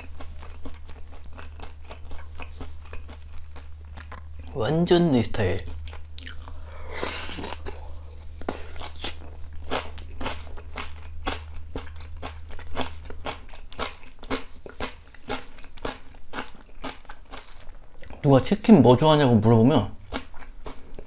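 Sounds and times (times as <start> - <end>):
crunching of fried chicken chewed: 0.0 - 18.4, 20.0 - 21.0.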